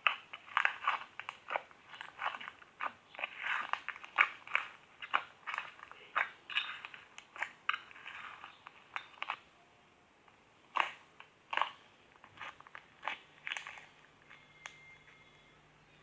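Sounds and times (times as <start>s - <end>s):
slime popping and crackling: 0.0s - 9.5s, 10.3s - 14.3s.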